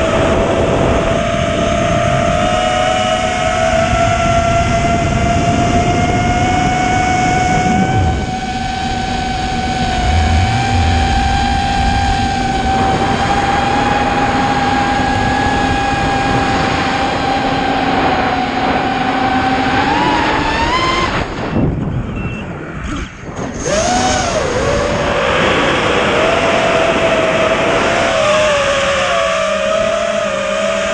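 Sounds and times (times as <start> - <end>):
quadcopter motors whining: 0.0 - 30.9.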